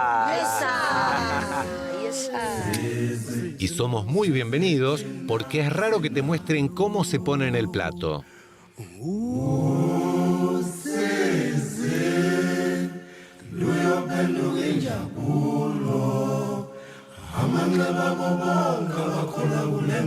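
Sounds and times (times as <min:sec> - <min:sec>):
voices chanting unaccompanied: 0:00.0 - 0:20.0.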